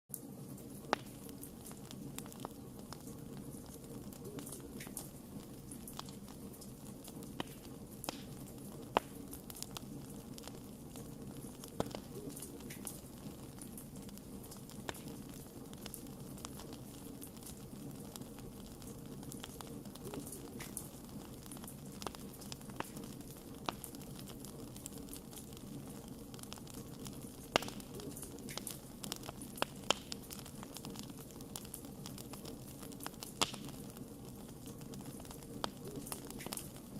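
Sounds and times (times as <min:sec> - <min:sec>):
fire crackling and popping: 0:00.1 - 0:36.9
wood fire rumbling: 0:00.1 - 0:36.9.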